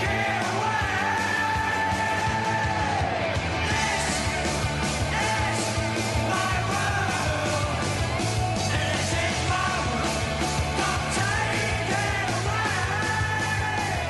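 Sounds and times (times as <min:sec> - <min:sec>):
bass: 0:00.0 - 0:14.0
distorted electric guitars: 0:00.0 - 0:14.0
fast drums: 0:00.0 - 0:14.0
yelled vocals: 0:00.0 - 0:14.0.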